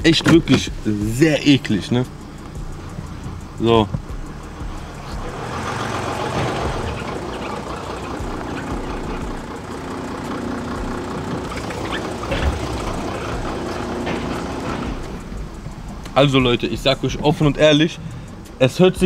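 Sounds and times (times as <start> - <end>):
car engine running: 0.0 - 19.0
suspension squeaks: 0.0 - 19.0.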